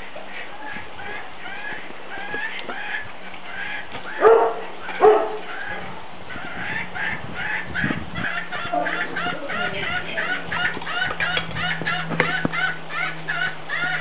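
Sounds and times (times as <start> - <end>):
birds chirping and calling: 0.0 - 14.0
loud animal calls: 0.4 - 14.0.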